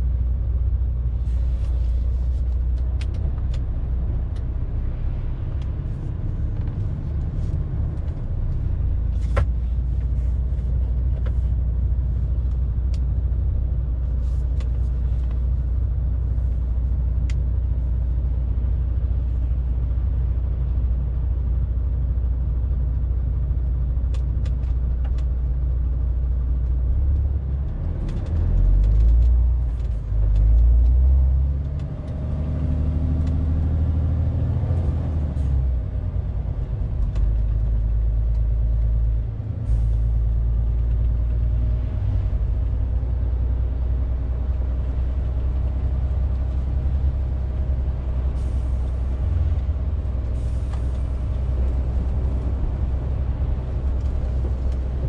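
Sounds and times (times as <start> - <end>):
truck diesel engine droning: 0.0 - 55.0.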